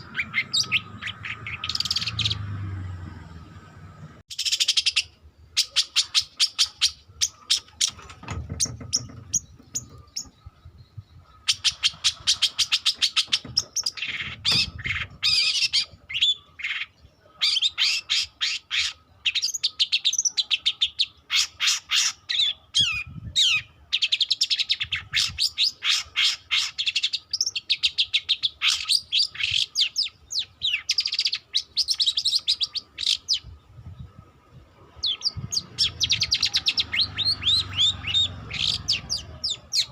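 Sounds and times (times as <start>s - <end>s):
bird singing chattering notes: 0.0s - 2.5s, 4.3s - 33.6s, 35.0s - 39.9s.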